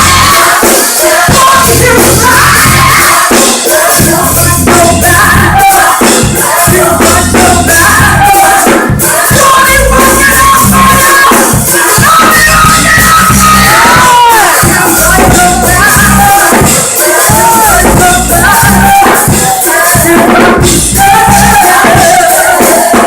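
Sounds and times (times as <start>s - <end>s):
bass and drums: 0.0s - 23.0s
gospel group singing: 0.0s - 23.0s.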